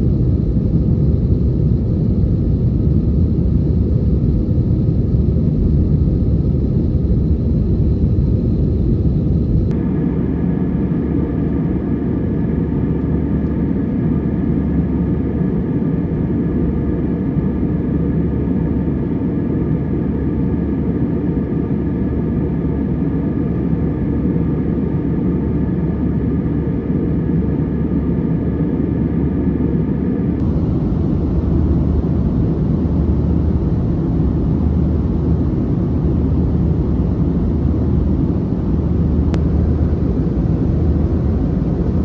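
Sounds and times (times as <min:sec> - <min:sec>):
airplane cabin engine noise: 0:00.0 - 0:42.0.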